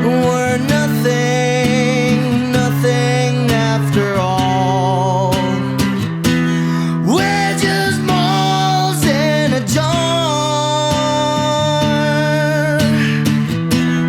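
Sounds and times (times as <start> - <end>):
guitar band music: 0.0 - 14.0
sliding lead guitar line: 0.0 - 14.0.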